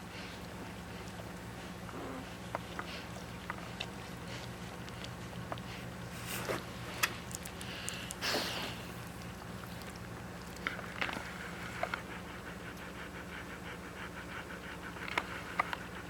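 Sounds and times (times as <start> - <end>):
puppies sniffing and clicking: 0.0 - 16.0.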